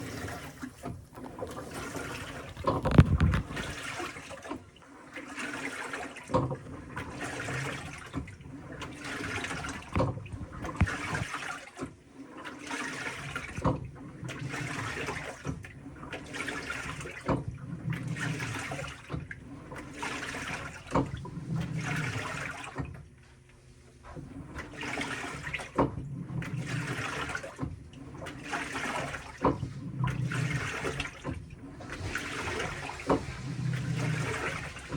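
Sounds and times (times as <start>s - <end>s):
water sloshing in washing machine: 0.0s - 34.9s.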